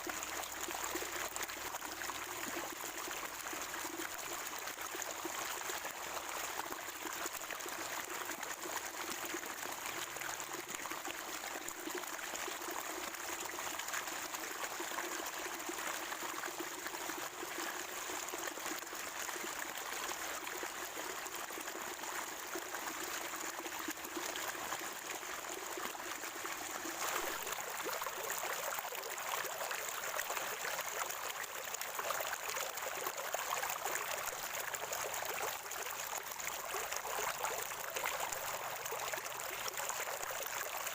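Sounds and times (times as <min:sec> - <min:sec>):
water trickling over stones: 0:00.0 - 0:40.9.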